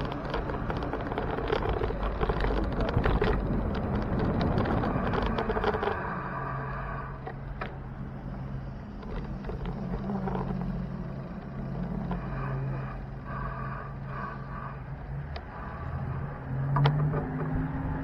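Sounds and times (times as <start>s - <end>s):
car engines running: 0.0s - 18.0s
road noise: 0.0s - 18.0s.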